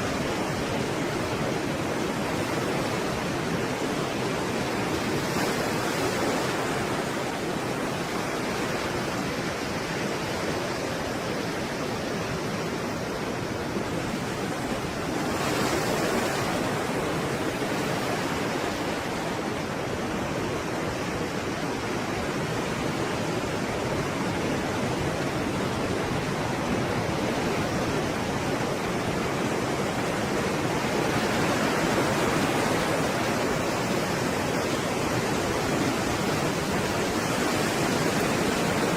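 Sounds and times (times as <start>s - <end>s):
sea waves crashing: 0.0s - 38.9s.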